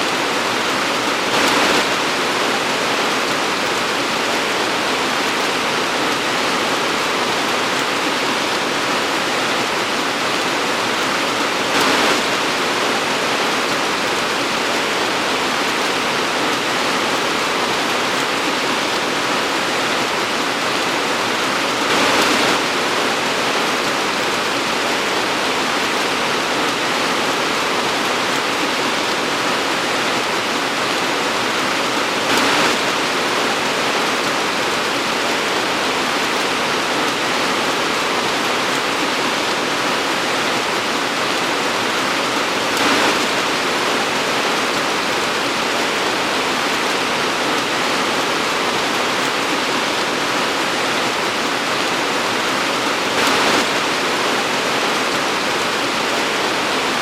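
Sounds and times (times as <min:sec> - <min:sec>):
torrential rain hiss: 0:00.0 - 0:57.0.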